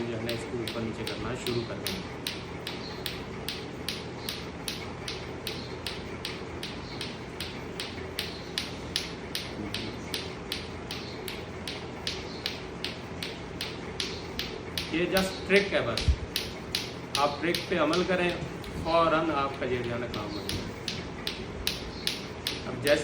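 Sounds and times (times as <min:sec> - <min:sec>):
clacker toy balls clacking: 0:00.0 - 0:23.0.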